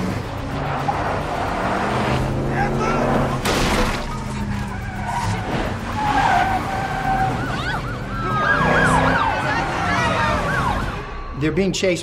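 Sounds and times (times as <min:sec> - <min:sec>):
police sirens wailing: 0:00.0 - 0:12.0
tyres skidding and squealing: 0:00.0 - 0:12.0.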